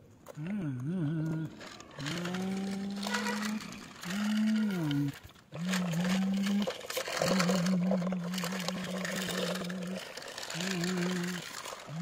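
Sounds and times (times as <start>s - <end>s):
plastic wheels on asphalt: 0.0s - 12.0s
man humming a low drone: 0.3s - 12.0s.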